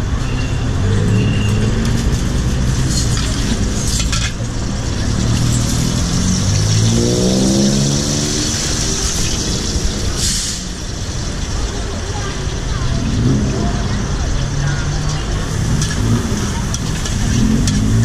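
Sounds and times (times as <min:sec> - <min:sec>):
street traffic: 0:00.0 - 0:18.0
vehicle engine pulling away: 0:00.8 - 0:18.0.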